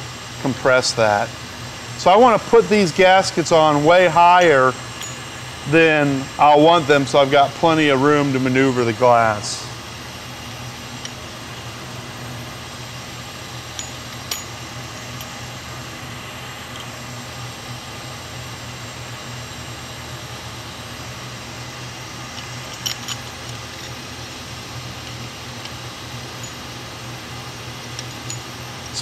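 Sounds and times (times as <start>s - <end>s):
machine-room hum: 0.0s - 29.0s.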